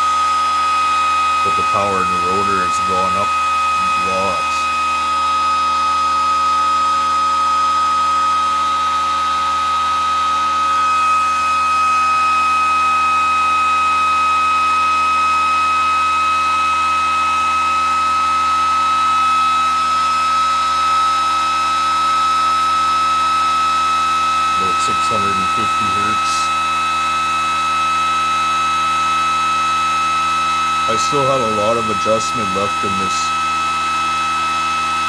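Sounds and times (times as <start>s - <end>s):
pulse motor high-pitched whine: 0.0s - 35.0s.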